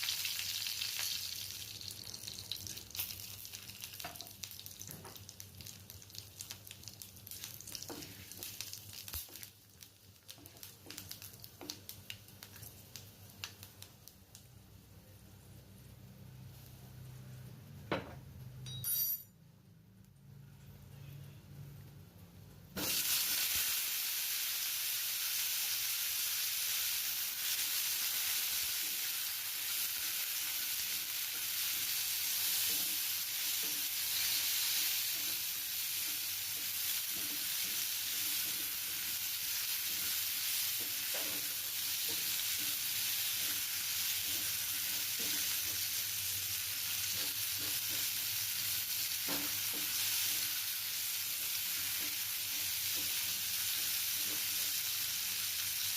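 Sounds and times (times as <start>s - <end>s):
food sizzling in hot oil: 0.0s - 14.7s, 22.8s - 55.9s.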